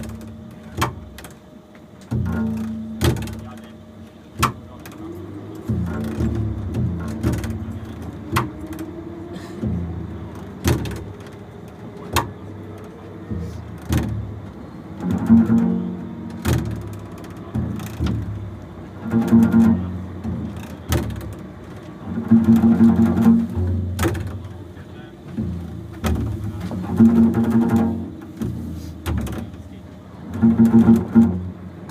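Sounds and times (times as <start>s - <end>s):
double bass playing low notes: 0.0s - 31.9s
sharp percussive knocks: 2.0s - 3.7s, 4.4s - 9.0s, 9.6s - 11.4s, 12.0s - 24.6s, 25.3s - 29.6s, 30.3s - 31.9s.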